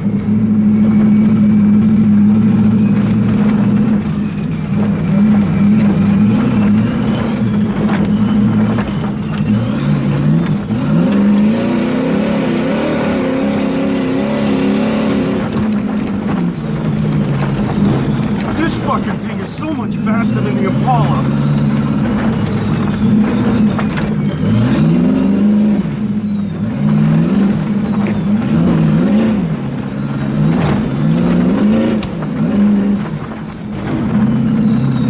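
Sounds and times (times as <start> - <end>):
truck engine accelerating hard: 0.0 - 35.0.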